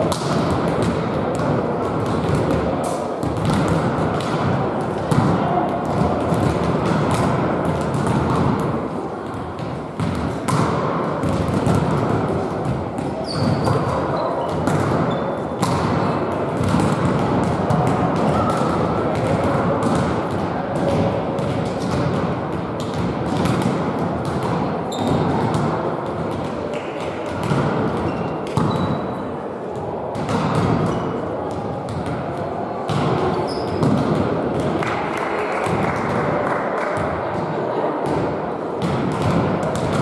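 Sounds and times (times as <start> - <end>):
background hubbub: 0.0 - 40.0
volleyballs thumping on hall floor: 0.0 - 40.0.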